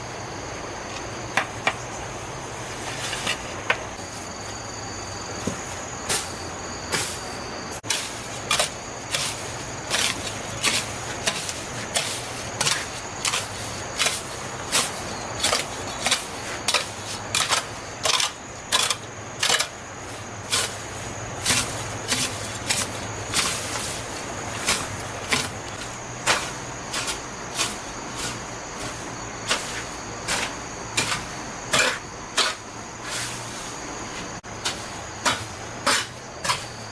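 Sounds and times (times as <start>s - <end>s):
crickets chirping: 0.0s - 36.9s
hand tool scraping ground: 2.6s - 4.6s, 5.4s - 36.9s.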